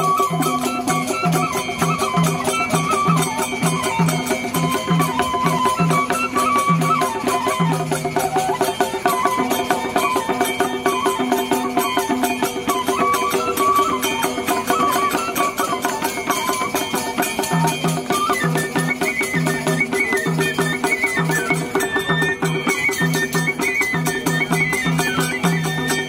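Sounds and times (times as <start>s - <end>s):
hand drum beating a rhythm: 0.0s - 26.0s
wavering folk melody: 0.0s - 26.0s.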